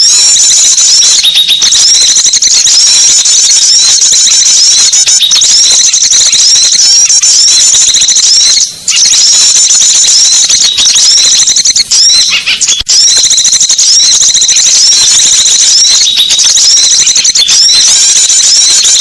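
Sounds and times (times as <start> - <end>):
songbirds chirping and twittering: 0.0 - 12.9, 14.5 - 19.0.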